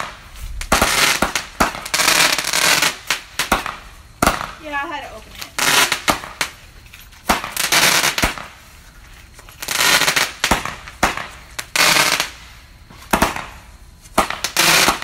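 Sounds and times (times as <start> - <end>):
fireworks bangs: 0.0 - 8.9, 9.6 - 15.0
fireworks hissing bursts: 0.0 - 15.0.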